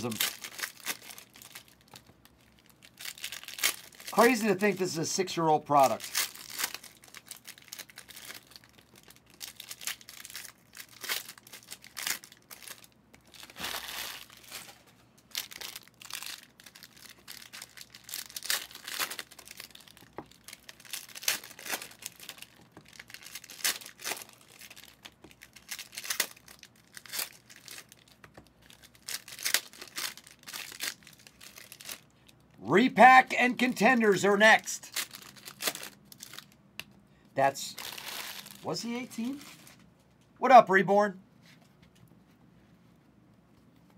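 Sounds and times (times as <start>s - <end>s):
foil wrappers crinkling and tearing: 0.0s - 5.0s, 5.6s - 32.1s, 33.6s - 36.6s, 37.7s - 39.8s.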